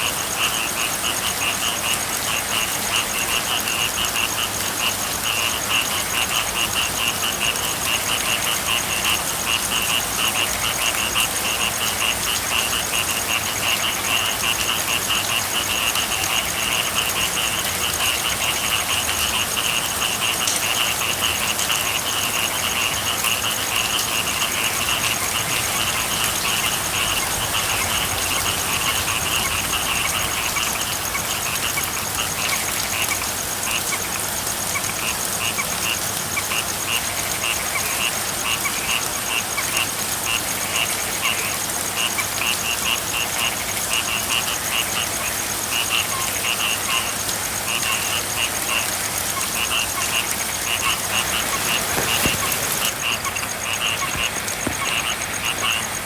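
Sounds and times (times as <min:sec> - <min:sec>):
frogs calling: 0:00.0 - 0:56.0
steady rain: 0:00.0 - 0:56.0.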